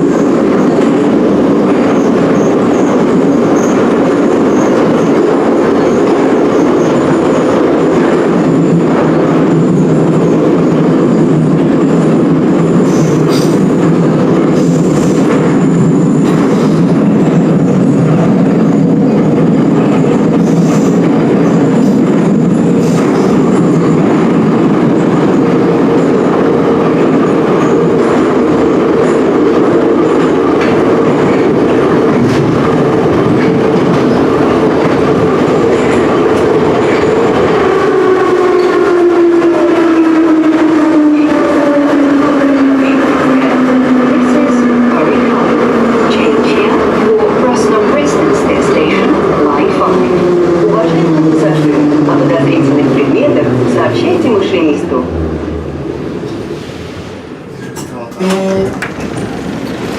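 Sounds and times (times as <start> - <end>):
train rumbling through tunnel: 0.0 - 59.9.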